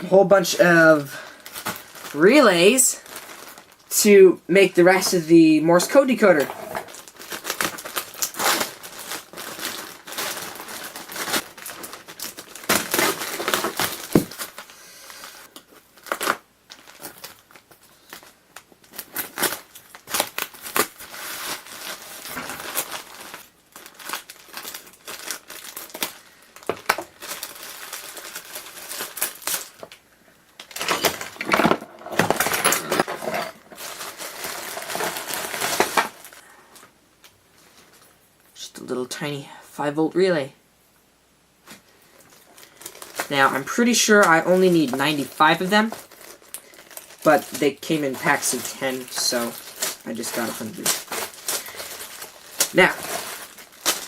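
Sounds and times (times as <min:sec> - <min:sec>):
plastic packs crinkling: 0:00.0 - 0:38.2, 0:41.6 - 0:54.0.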